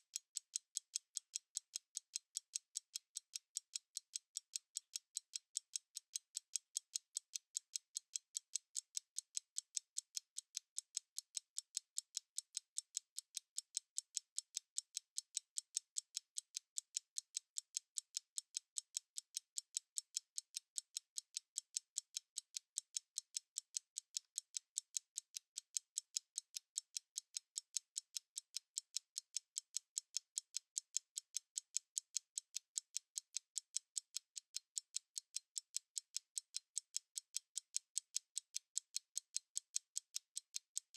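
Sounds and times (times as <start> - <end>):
stopwatch ticking: 0.0 - 40.9.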